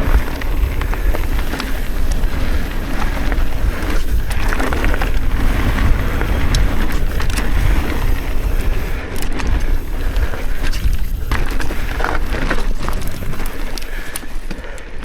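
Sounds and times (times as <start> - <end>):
bike rattling: 0.0 - 15.0
bike tyre noise on dirt: 0.0 - 15.0
wind rumbling on microphone: 0.0 - 15.0.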